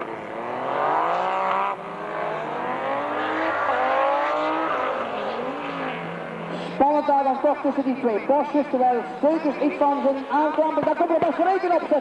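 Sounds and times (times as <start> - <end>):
rally cars accelerating hard: 0.0 - 12.0.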